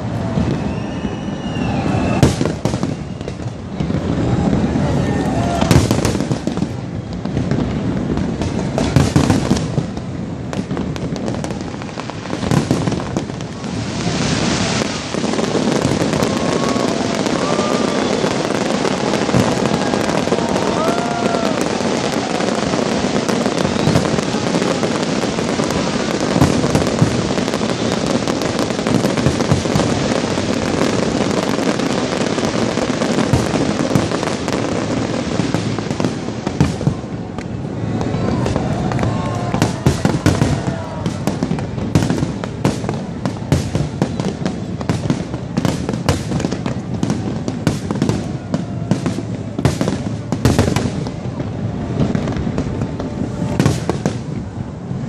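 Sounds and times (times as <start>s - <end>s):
firework whistles: 0.0s - 54.7s
firework bursts and bangs: 0.0s - 55.0s
fireworks crackling: 0.0s - 55.0s.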